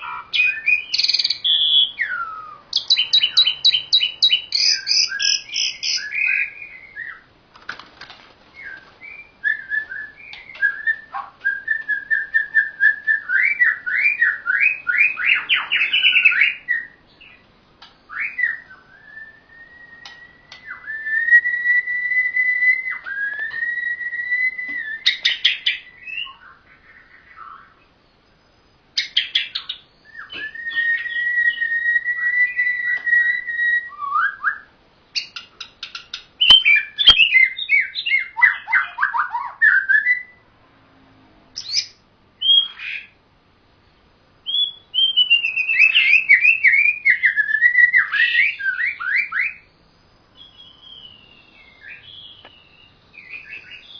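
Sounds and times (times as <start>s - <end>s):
birds singing whistled phrases: 0.0s - 7.4s, 8.5s - 40.4s, 41.6s - 43.2s, 43.9s - 53.9s.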